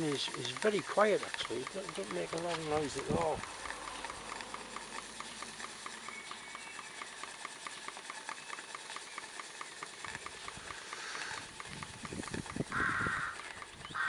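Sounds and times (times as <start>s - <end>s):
model steam engine running: 0.0s - 14.0s.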